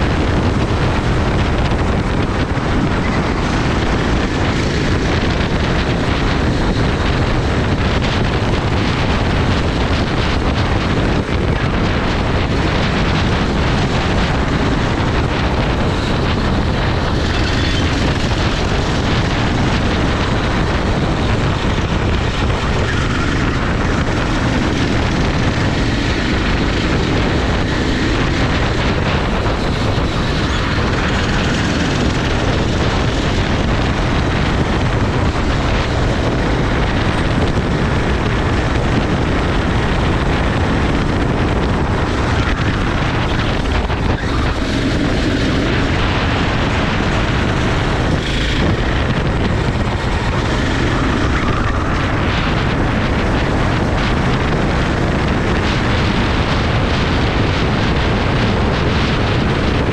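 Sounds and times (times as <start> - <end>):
kart engine at speed: 0.0 - 59.9
wind rush on microphone: 0.0 - 59.9.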